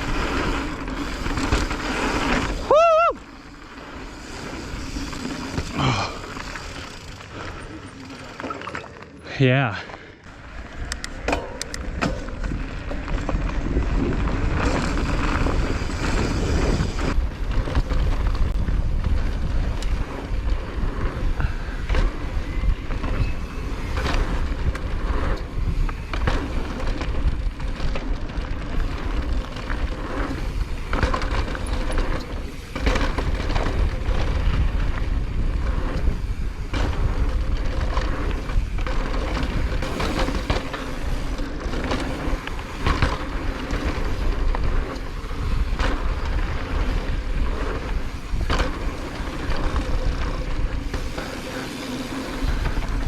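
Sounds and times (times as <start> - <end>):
bike rattling and knocking: 0.0 - 9.8, 10.6 - 53.0
tyres rolling over dirt: 0.0 - 53.0
wind buffeting microphone: 10.5 - 53.0.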